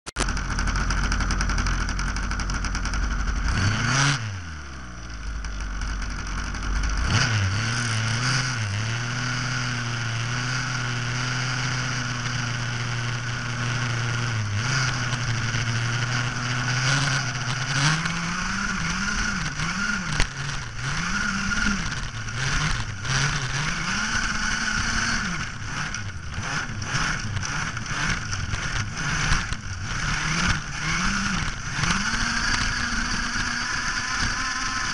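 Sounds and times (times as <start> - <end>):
small engine revving: 0.2 - 34.9.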